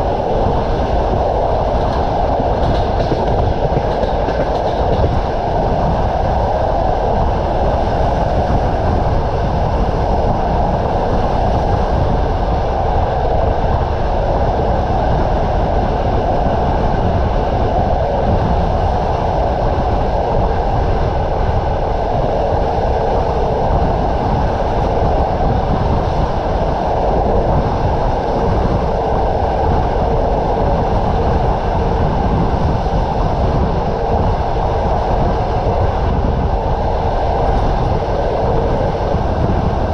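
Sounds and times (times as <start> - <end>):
train rumbling along rails: 0.0 - 39.9.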